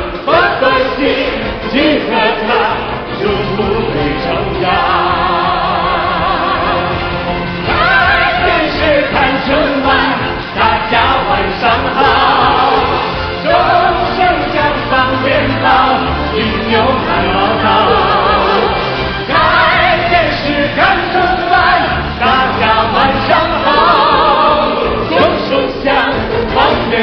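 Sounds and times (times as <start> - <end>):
man and woman singing pop song: 0.0 - 27.0.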